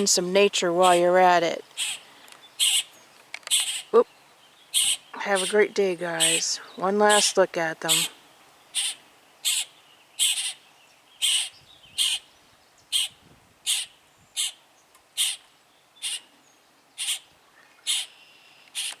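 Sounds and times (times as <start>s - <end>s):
nestlings raspy begging calls: 0.0s - 16.3s, 17.0s - 19.0s.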